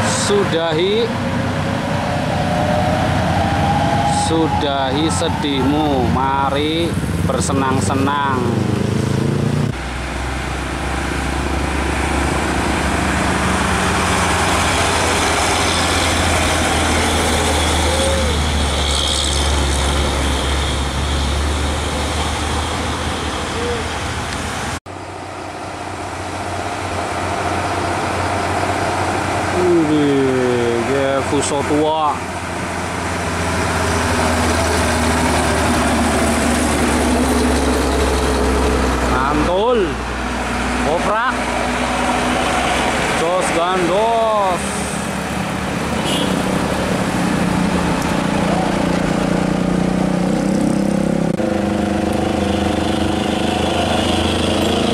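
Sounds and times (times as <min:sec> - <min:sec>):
diesel truck engine driving past: 0:00.0 - 0:54.9
road traffic noise: 0:00.0 - 0:54.9.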